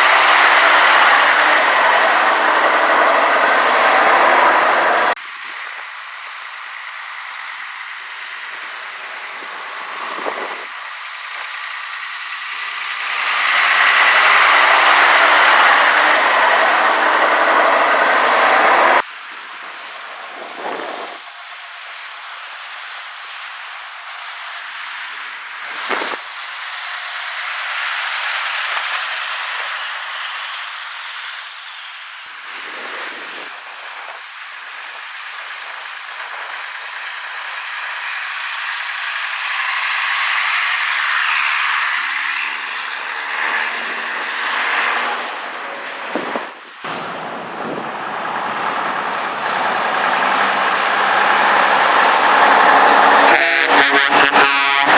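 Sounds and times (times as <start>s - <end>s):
truck diesel engine: 0.0s - 32.8s, 33.6s - 54.9s.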